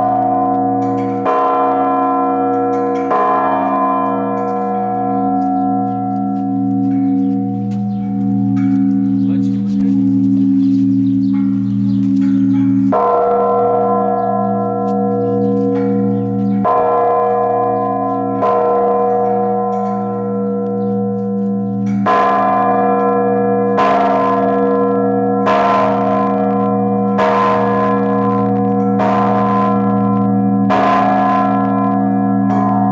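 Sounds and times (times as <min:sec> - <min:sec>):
large church bell ringing: 0:00.0 - 0:32.9.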